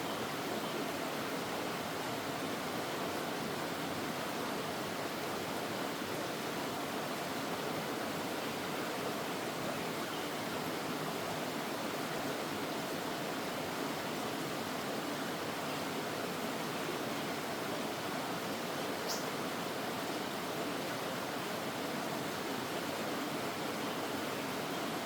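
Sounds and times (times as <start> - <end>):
stream water flowing: 0.0 - 25.0.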